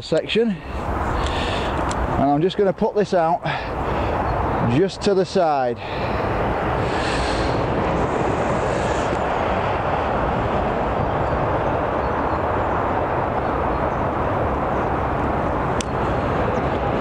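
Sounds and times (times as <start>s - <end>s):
wind on microphone: 0.0s - 2.8s, 3.4s - 17.0s.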